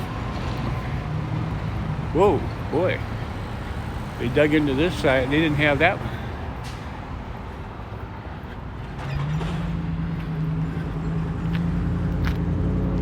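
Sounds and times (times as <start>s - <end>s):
engine hum: 0.0s - 13.0s
low street rumble: 0.0s - 13.0s.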